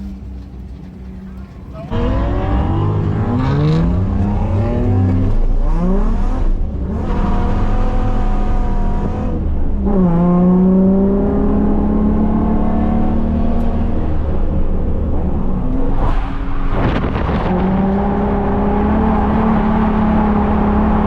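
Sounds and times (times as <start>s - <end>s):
car engine revving: 1.8s - 21.0s.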